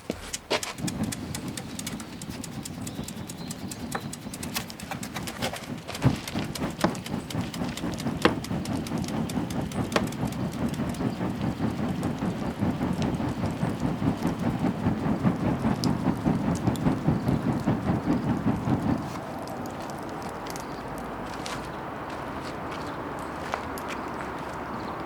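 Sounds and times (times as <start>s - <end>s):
fire crackling: 0.0s - 24.8s
bonfire flames rushing: 0.0s - 25.0s
sharp fire pops: 0.6s - 21.3s.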